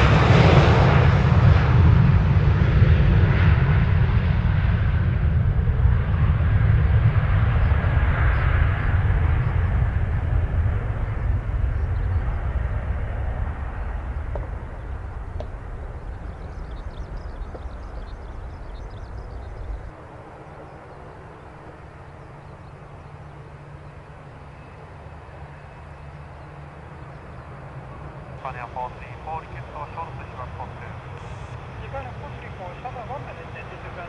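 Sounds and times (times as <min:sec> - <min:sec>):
airliner rumble climbing away: 0:00.0 - 0:34.0
jet engines at takeoff thrust: 0:00.0 - 0:34.0.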